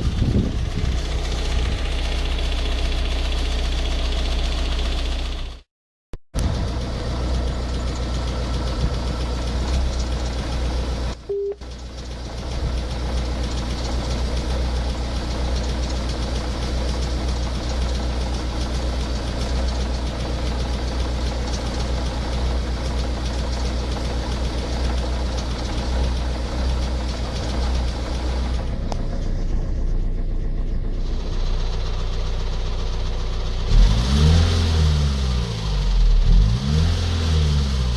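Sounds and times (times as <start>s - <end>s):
diesel engine knocking rattle: 0.0s - 5.7s, 6.4s - 36.6s.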